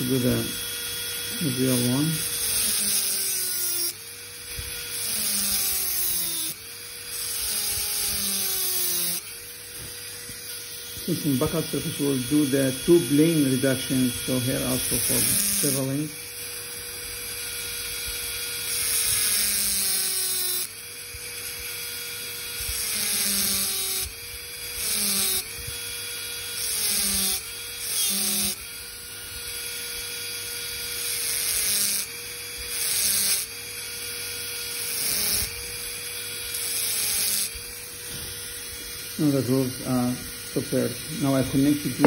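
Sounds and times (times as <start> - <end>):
dental drill whining: 0.0 - 42.0.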